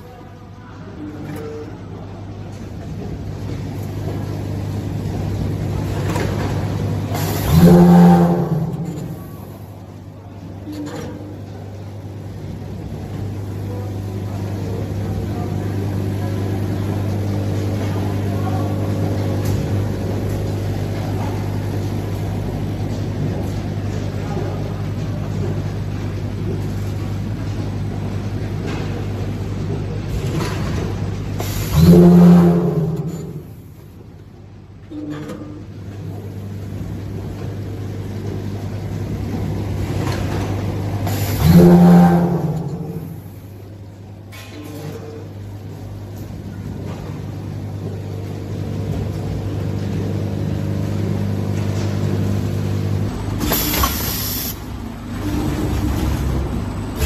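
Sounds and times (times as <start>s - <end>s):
packing machine humming: 0.8s - 57.0s.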